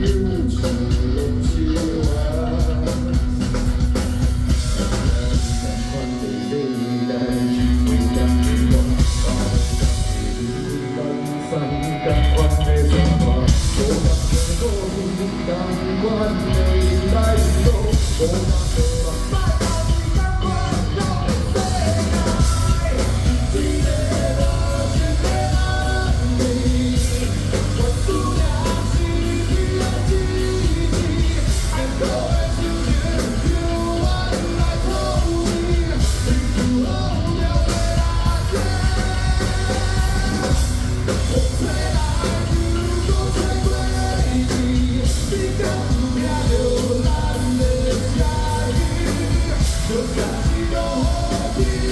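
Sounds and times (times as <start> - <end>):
person singing: 0.0 - 51.9
rock band playing: 0.0 - 51.9.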